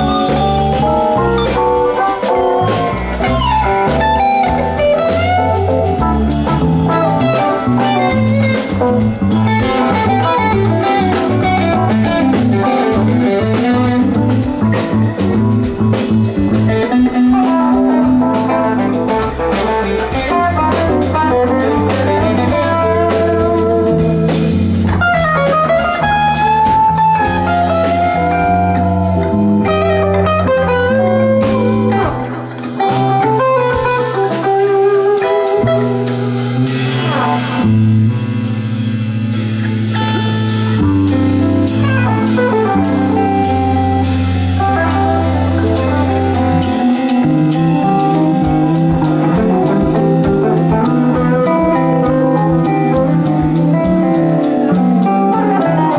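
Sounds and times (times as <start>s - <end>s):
drum kit with cymbals: 0.0s - 55.9s
electric bass: 0.0s - 55.9s
electric guitar lead lines: 0.0s - 55.9s.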